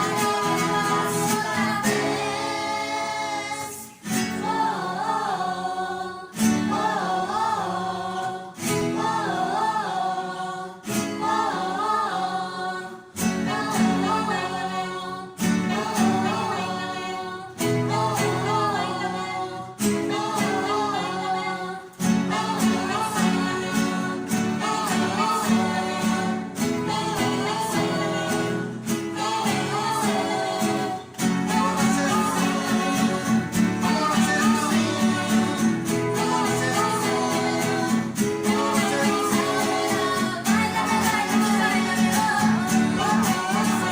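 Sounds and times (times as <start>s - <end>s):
strummed and plucked guitars: 0.0s - 43.9s
voices singing: 0.0s - 43.9s.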